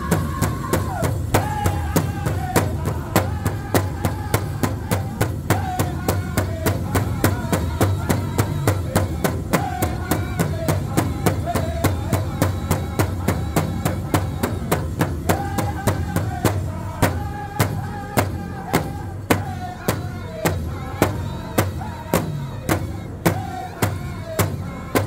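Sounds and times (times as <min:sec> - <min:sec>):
large hand drum beating: 0:00.0 - 0:25.0
men singing together: 0:00.0 - 0:25.0.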